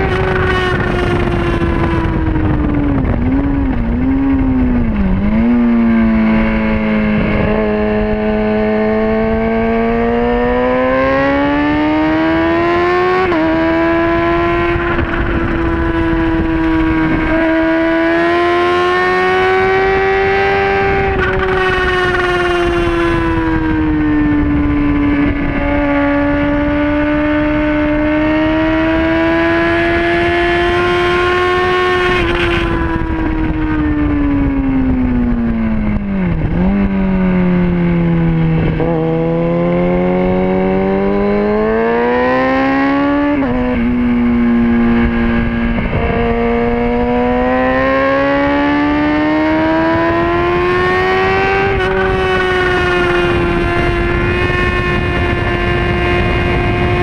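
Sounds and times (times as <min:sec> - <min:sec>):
racing motorcycle engine revving: 0:00.0 - 0:57.0
wind rushing: 0:00.0 - 0:57.0.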